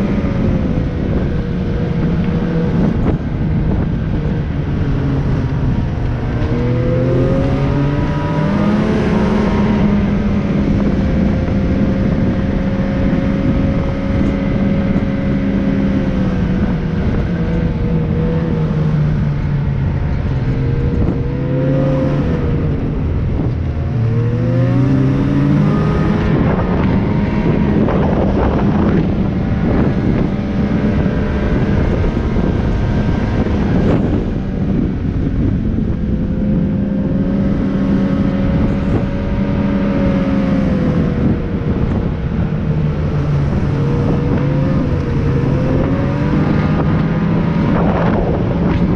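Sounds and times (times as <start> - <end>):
vehicle engine revving: 0.0 - 48.9
wind and travel noise: 0.0 - 48.9.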